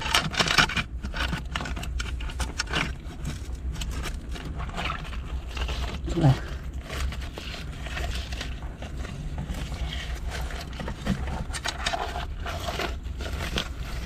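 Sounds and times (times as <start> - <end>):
low steady rumble: 0.0 - 14.0
scraping among rocks: 0.0 - 14.0.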